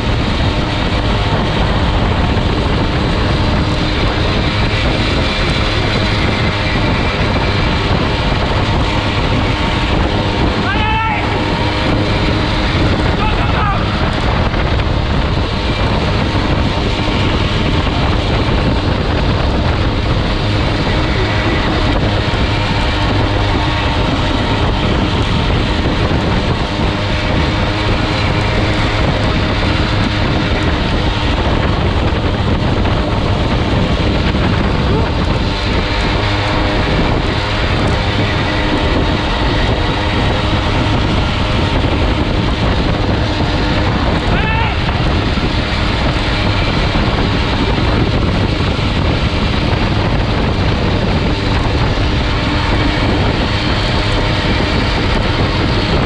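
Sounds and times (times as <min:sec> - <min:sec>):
motorbike engine running: 0:00.0 - 0:56.0
wind rush on microphone: 0:00.0 - 0:56.0.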